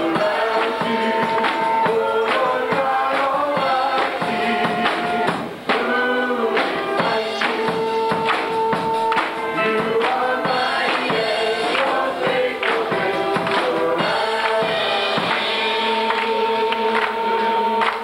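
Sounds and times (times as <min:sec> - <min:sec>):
congregation singing gospel music: 0:00.0 - 0:18.0
hands clapping on a beat: 0:00.0 - 0:18.0.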